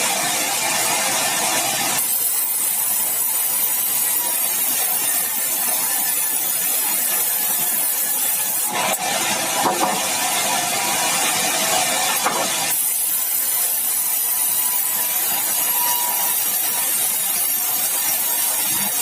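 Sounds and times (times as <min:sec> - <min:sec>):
sawmill running: 0:00.0 - 0:19.0.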